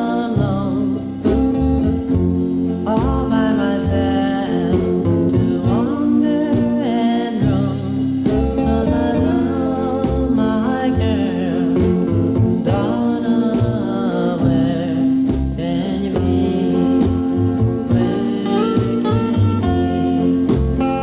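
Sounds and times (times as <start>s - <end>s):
pop song with singing and band: 0.0s - 21.0s.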